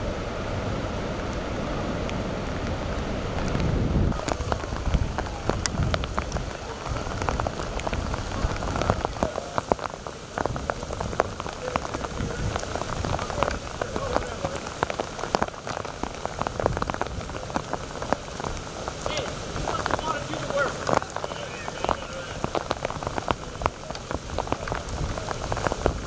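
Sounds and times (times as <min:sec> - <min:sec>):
heavy rain falling: 0:00.0 - 0:26.0
raindrops ticking: 0:01.1 - 0:26.0.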